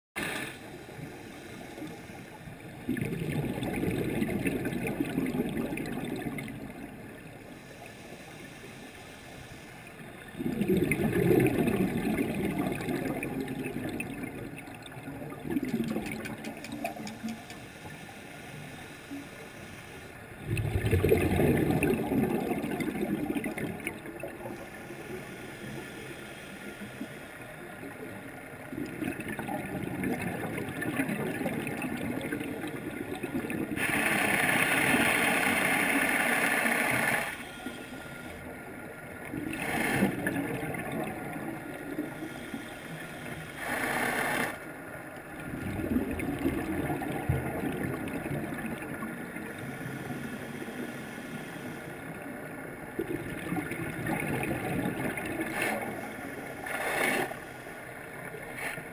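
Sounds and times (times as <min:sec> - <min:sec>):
exhaled bubbles gurgling underwater: 0:00.2 - 0:08.3, 0:09.8 - 0:19.4, 0:20.2 - 0:43.9, 0:44.6 - 0:58.9
steady underwater hiss: 0:00.2 - 0:58.9.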